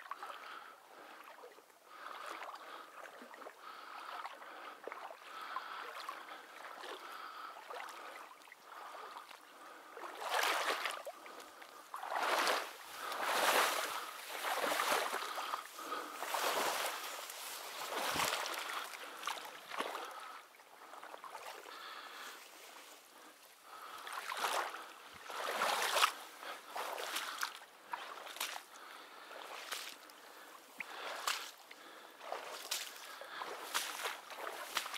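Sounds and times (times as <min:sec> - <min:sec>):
wading through shallow marsh water: 0:00.0 - 0:34.9.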